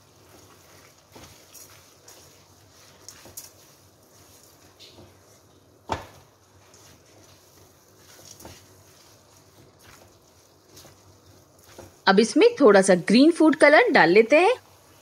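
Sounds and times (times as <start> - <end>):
spatula scraping a pan: 0.0 - 12.3.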